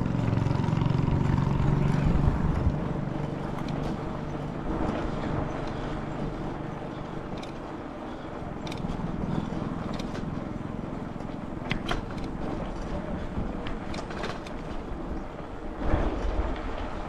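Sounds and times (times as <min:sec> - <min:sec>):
bicycle tyres on rough ground: 0:00.0 - 0:17.0
bike rattling: 0:00.0 - 0:17.0
wind rumble: 0:00.0 - 0:17.0.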